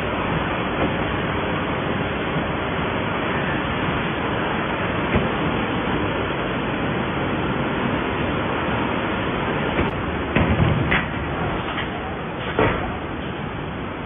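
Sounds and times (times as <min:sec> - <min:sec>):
production-line machinery: 0:00.0 - 0:14.0.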